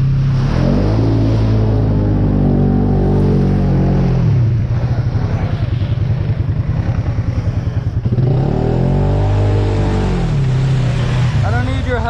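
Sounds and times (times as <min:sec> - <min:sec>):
atv engine chugging and revving: 0:00.0 - 0:12.0.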